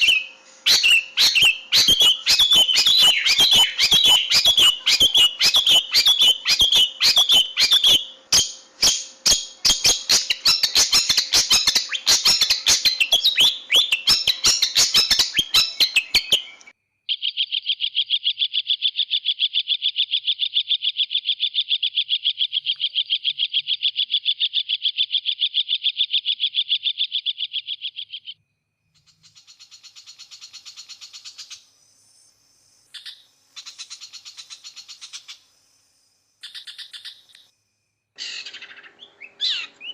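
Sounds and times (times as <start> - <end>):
bird fast trill: 0.0 - 28.4, 29.0 - 37.5, 38.2 - 39.9
bird harsh chattering: 0.0 - 28.4, 33.0 - 35.5, 36.4 - 37.4, 38.2 - 39.9.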